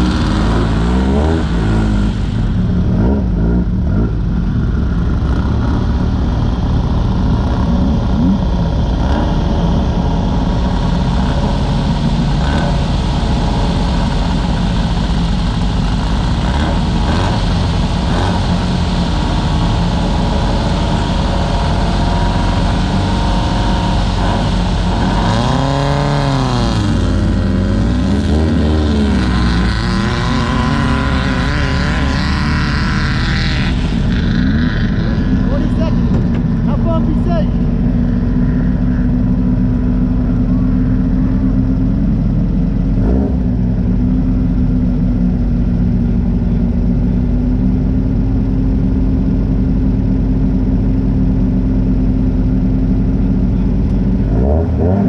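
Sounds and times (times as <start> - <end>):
race buggy engine running hard: 0.0 - 55.0.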